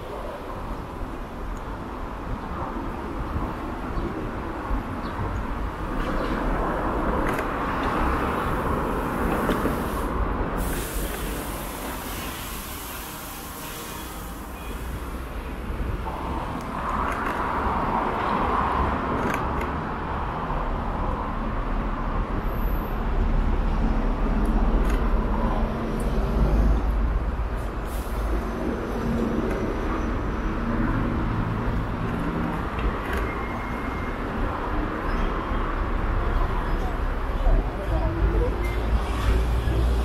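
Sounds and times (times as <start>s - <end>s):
road and wind noise: 0.0s - 40.0s
traffic: 0.0s - 40.0s.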